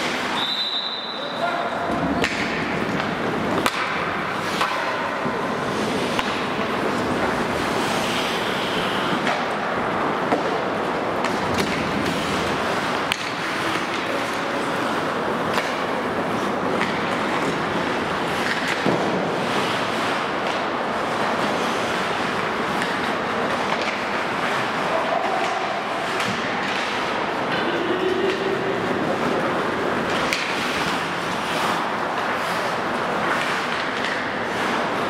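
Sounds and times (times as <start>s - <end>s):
sticks and puck clacking: 0.0s - 35.0s
skates scraping on ice: 1.3s - 35.0s.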